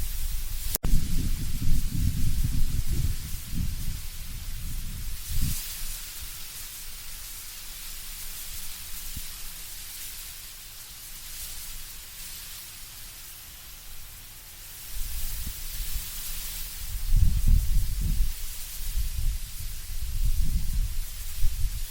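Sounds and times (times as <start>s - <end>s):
leaves rustling: 0.0s - 21.9s
wind blowing through trees: 0.0s - 21.9s.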